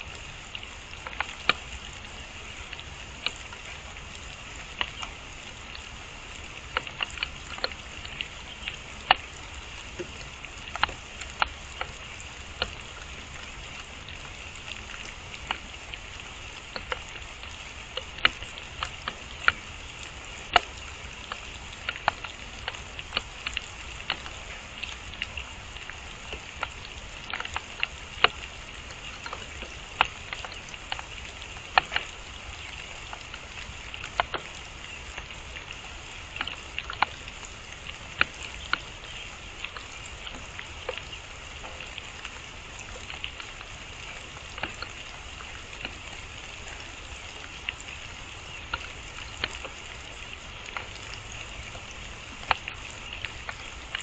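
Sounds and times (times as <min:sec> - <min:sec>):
rain falling: 0:00.0 - 0:54.0
raindrops tapping surfaces: 0:00.0 - 0:54.0.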